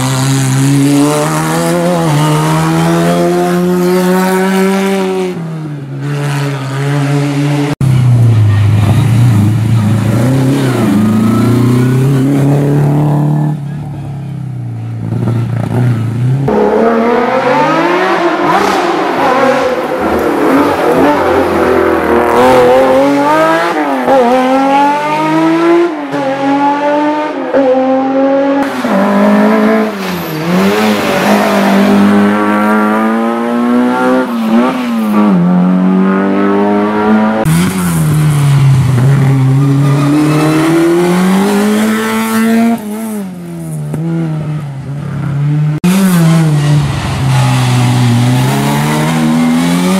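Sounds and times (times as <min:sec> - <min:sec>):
rally car engine revving: 0:00.0 - 0:14.0, 0:14.9 - 0:49.9.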